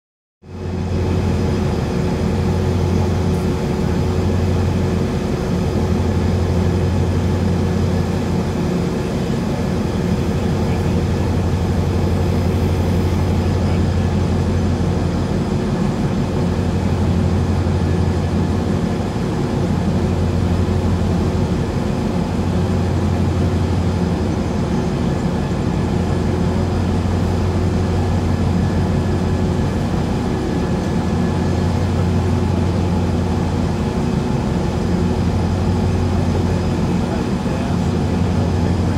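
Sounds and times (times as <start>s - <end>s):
diesel engines running: 0.5s - 38.9s.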